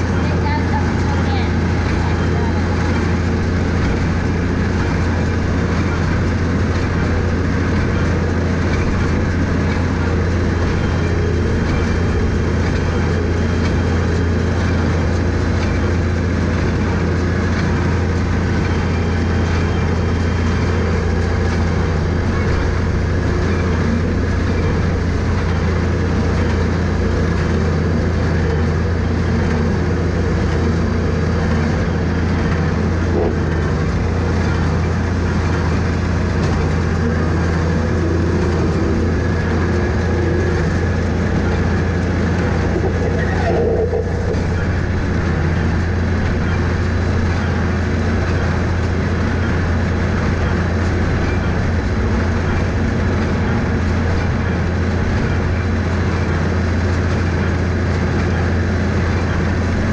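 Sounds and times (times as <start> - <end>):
hay baler mechanism running: 0.0 - 59.9
tractor engine humming: 0.0 - 59.9.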